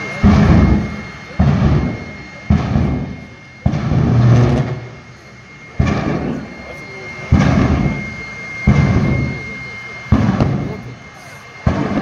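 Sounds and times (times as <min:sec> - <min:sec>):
jet engine booms: 0:00.0 - 0:12.0.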